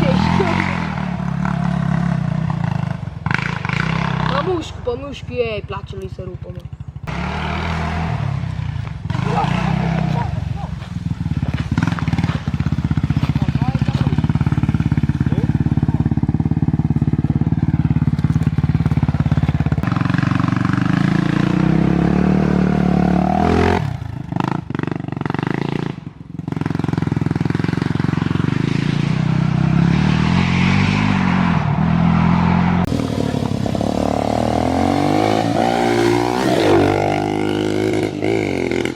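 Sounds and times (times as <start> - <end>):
off-road vehicle engine: 0.0 - 38.9.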